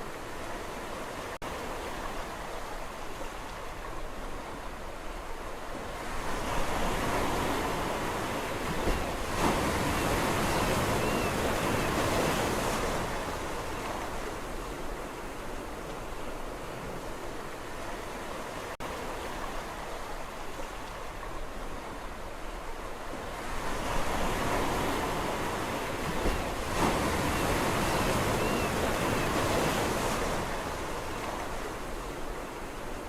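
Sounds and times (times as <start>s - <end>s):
sea waves washing on shore: 0.0s - 33.0s.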